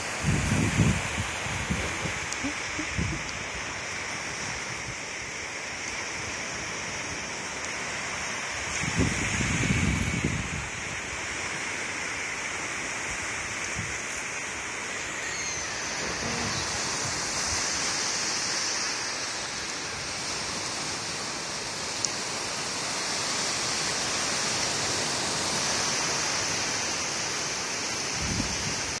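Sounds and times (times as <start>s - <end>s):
ocean waves washing onto shore: 0.0s - 29.0s.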